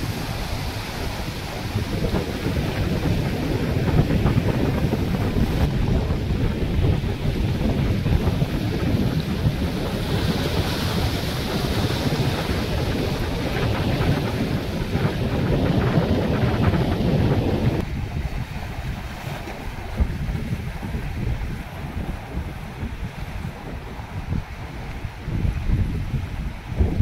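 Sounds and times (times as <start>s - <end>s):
sea waves washing over rocks: 0.0s - 27.0s
wind buffeting microphone: 0.0s - 27.0s.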